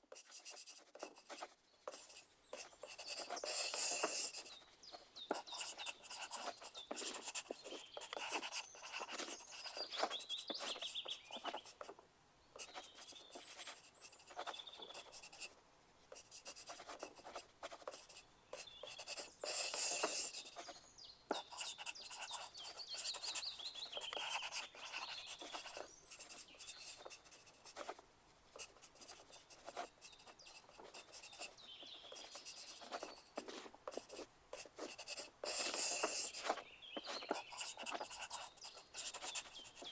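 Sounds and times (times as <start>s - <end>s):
pencil scratching on paper: 0.0s - 11.9s, 12.6s - 39.9s.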